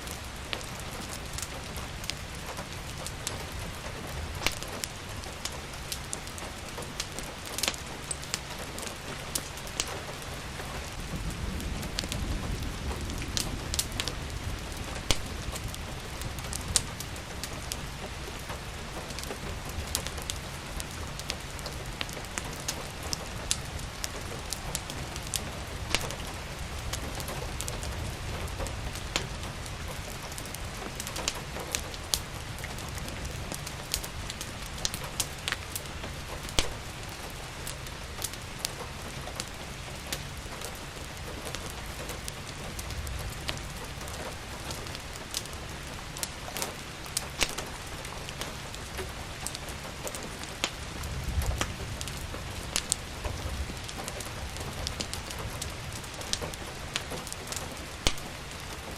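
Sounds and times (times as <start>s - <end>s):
steady rain: 0.0s - 58.9s
wood fire crackling and popping: 0.0s - 58.9s.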